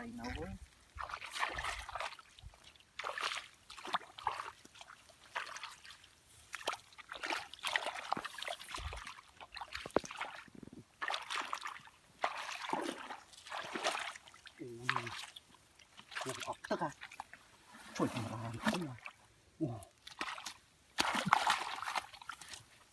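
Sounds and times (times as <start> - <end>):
shallow water sloshing and splashing: 0.0 - 22.9.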